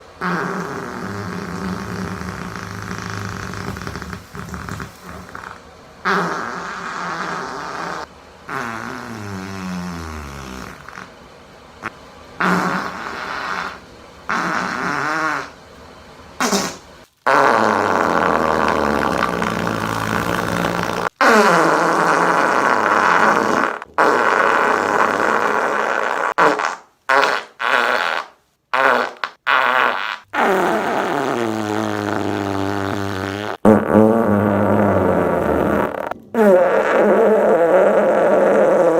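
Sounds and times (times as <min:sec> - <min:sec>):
sputtering fart sounds: 0:00.0 - 0:11.2, 0:11.8 - 0:15.6, 0:16.4 - 0:38.9.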